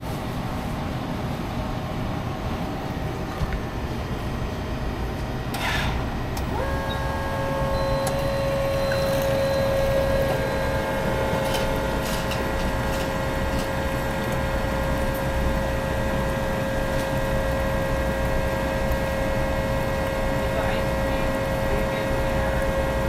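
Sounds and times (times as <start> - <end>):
constant whine: 0.1 - 23.0.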